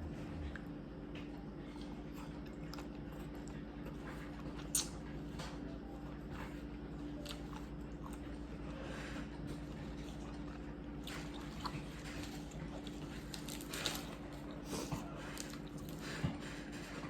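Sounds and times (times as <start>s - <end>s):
steady low hum: 0.0s - 17.0s
person chewing seafood: 1.7s - 5.4s, 6.4s - 16.8s.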